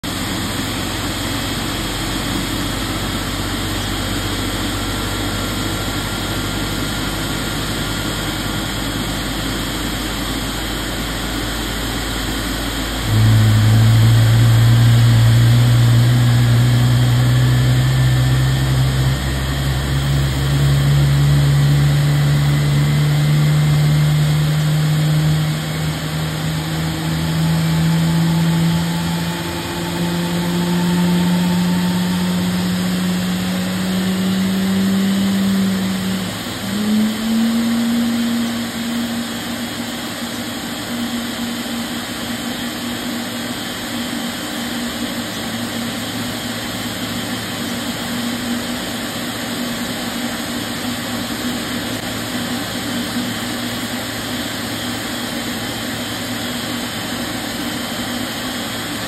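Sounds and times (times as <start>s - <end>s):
jet engine drone spooling up: 0.0s - 59.0s
jet engine starter rush and whine: 0.0s - 59.0s.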